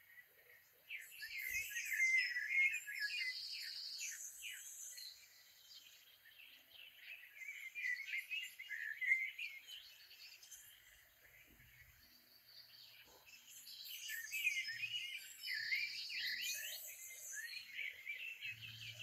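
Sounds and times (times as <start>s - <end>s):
birds chirping and warbling: 0.0s - 19.0s.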